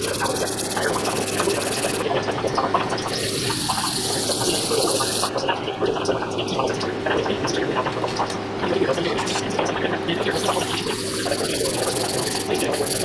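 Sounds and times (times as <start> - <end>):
milling machine motor hum: 0.0 - 13.0.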